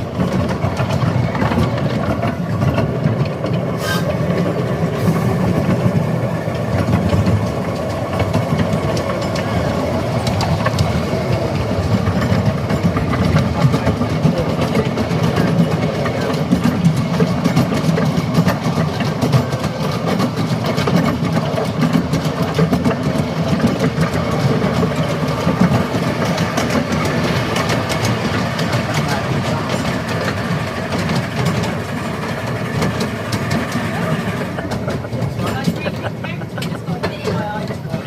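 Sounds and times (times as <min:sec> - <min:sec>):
miniature steam train wheels rumbling: 0:00.0 - 0:38.0.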